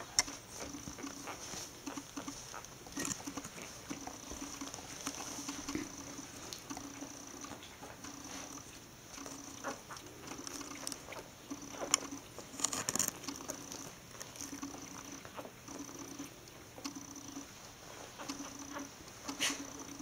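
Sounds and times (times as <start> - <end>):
puppies suckling smacking clicks: 0.0 - 20.0
small rustles: 0.0 - 20.0.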